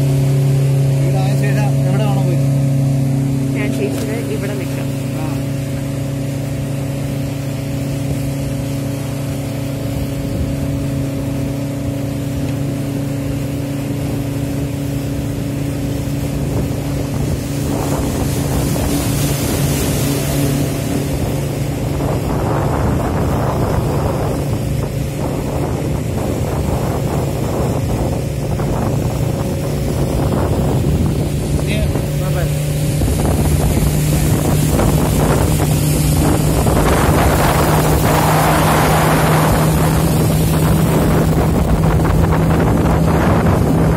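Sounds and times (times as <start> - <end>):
speedboat engine humming: 0.0 - 43.9
water rushing along hull: 0.0 - 43.9
wind on microphone: 0.0 - 43.9.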